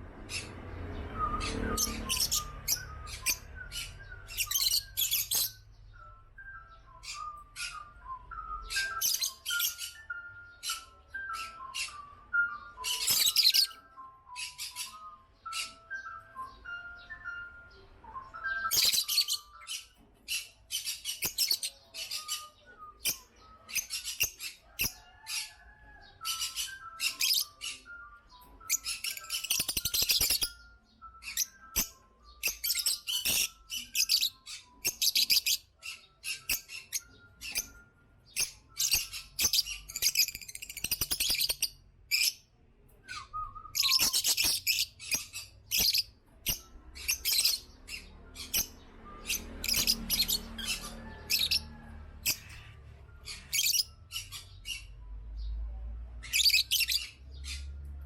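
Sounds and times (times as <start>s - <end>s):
lovebirds chattering shrill chirps: 1.4s - 5.7s, 6.8s - 17.2s, 18.4s - 25.6s, 26.3s - 42.4s, 43.1s - 55.0s, 56.2s - 57.7s.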